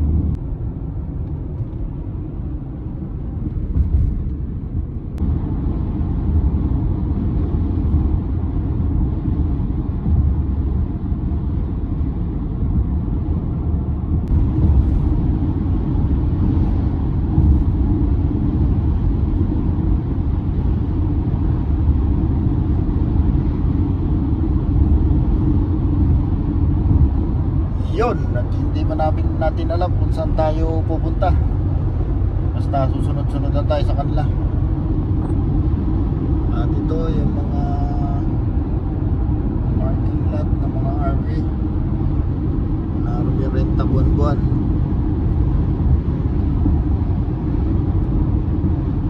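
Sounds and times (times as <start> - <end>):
car road and engine rumble: 0.0 - 49.0.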